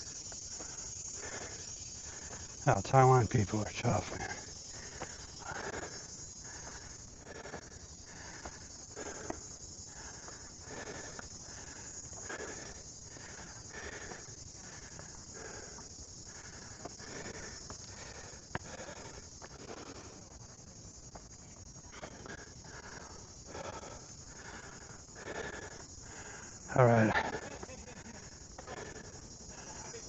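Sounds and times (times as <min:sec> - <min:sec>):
person breathing hard: 0:00.0 - 0:02.6, 0:03.8 - 0:30.0
insects buzzing: 0:00.0 - 0:30.0.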